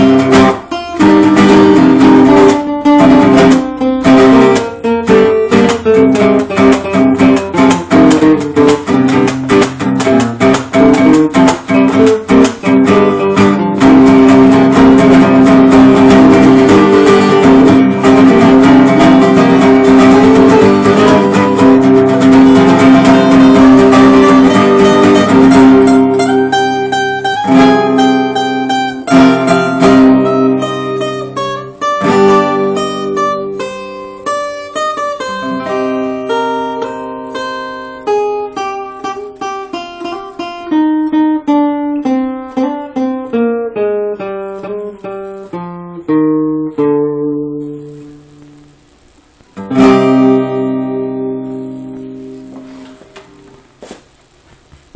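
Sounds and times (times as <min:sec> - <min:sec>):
guitar plucked notes: 0:00.0 - 0:54.0
acoustic guitar strumming: 0:00.0 - 0:54.9.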